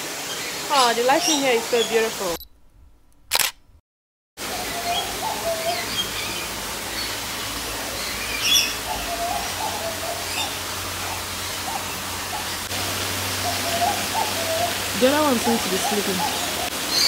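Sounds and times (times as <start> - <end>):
birds calling and chirping: 0.2 - 2.4, 4.4 - 17.0.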